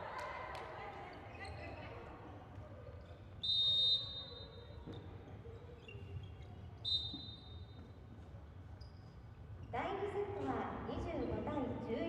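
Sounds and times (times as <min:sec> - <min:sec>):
murmur of arena crowd: 0:00.0 - 0:12.0.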